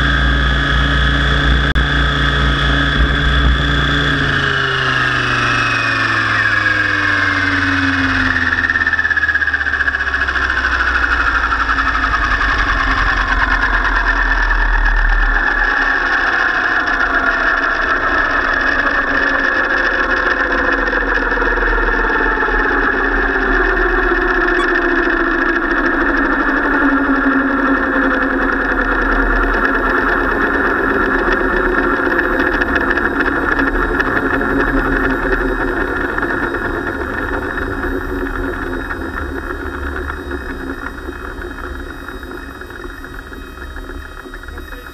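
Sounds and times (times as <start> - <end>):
rc helicopter rotor drone: 0.0 - 44.9
whining tones sliding down: 0.0 - 44.9.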